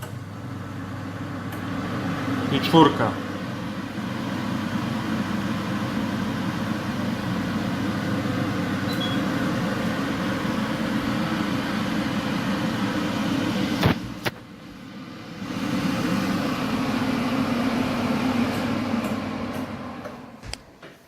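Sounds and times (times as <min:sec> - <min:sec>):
extractor fan running: 0:00.0 - 0:21.0.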